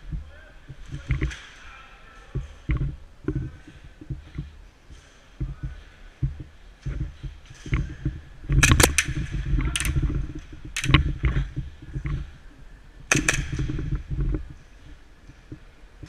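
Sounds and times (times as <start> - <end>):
microphone handling rumble: 0.0 - 1.4, 2.3 - 16.0.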